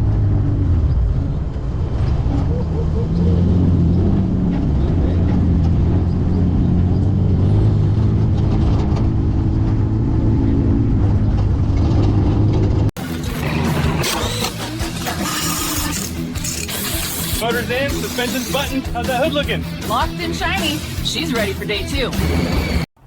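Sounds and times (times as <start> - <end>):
engine drone from inside cab: 0.0 - 18.7.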